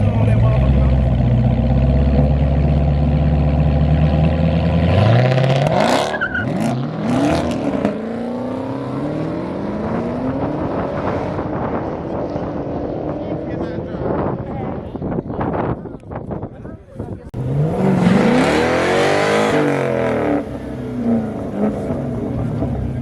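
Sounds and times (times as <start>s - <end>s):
cars rushing away: 0.0s - 15.0s, 17.4s - 23.0s
race car engines revving: 0.0s - 16.3s, 17.3s - 23.0s.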